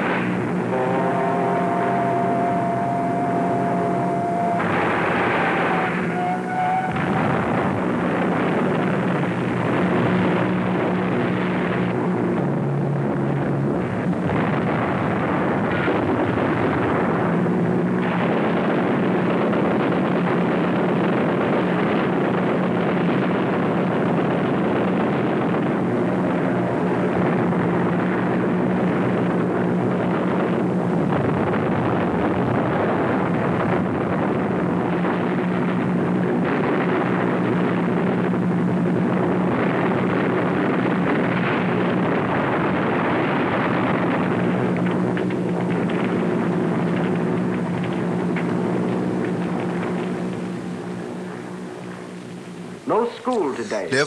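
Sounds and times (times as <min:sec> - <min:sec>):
dense rumbling noise: 0:00.0 - 0:54.0
engines droning: 0:00.0 - 0:54.0.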